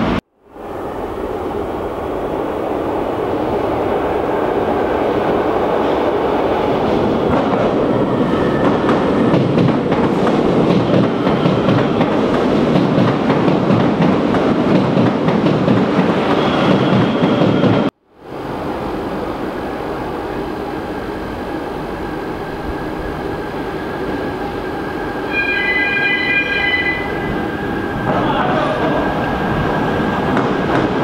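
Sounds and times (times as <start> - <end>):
subway train rolling: 0.0 - 31.0.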